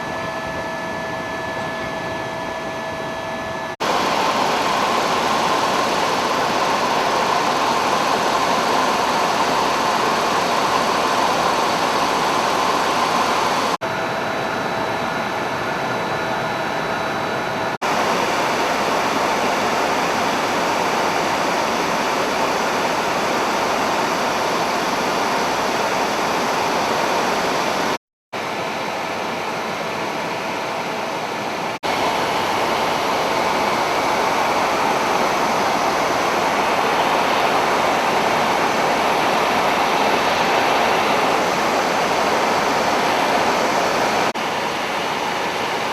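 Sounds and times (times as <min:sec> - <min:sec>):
helicopter rotor and turbine noise: 0:00.0 - 0:45.9.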